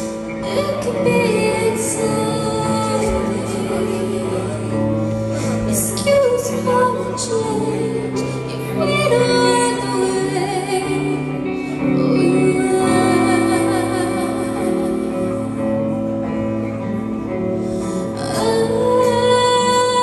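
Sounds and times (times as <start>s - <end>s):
woman singing: 0.0s - 16.4s, 17.9s - 20.0s
bass guitar: 0.0s - 20.0s
electric guitars: 0.0s - 20.0s.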